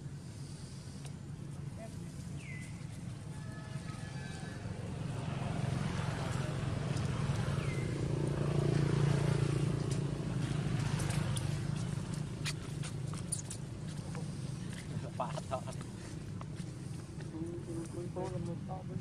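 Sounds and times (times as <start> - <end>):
vehicle engine passing by: 1.9 - 19.0.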